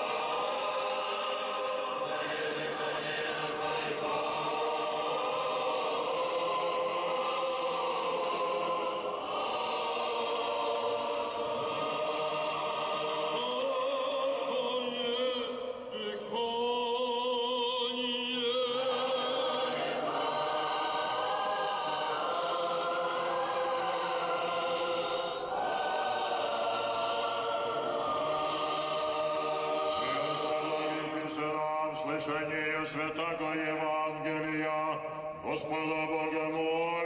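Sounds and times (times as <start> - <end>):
choir chanting in long held notes: 0.0 - 37.0.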